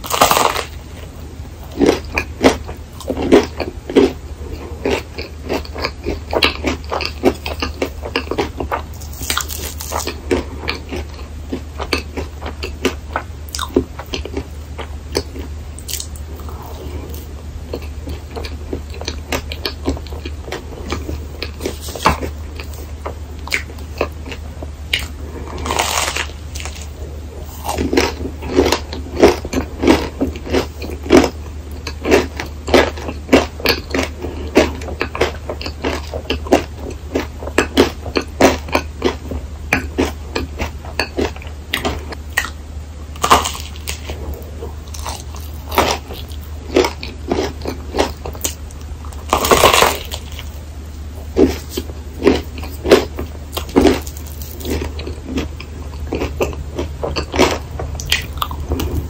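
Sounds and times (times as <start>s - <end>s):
crunchy chewing: 0.0s - 59.0s
low hum: 0.0s - 59.0s.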